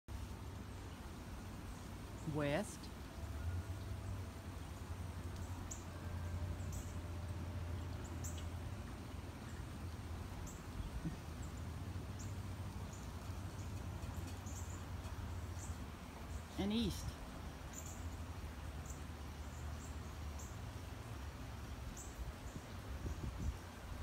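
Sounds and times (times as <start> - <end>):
low steady rumble: 0.1 - 24.0.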